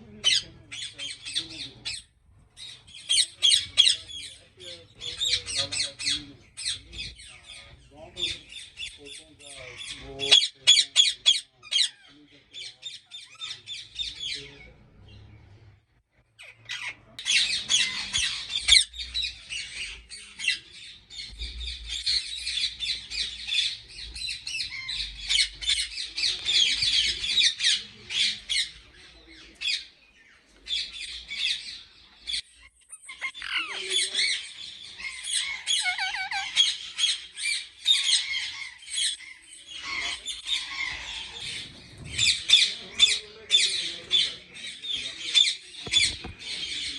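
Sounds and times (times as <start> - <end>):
parakeets squawking: 0.1 - 15.2, 16.3 - 29.9, 30.7 - 46.9.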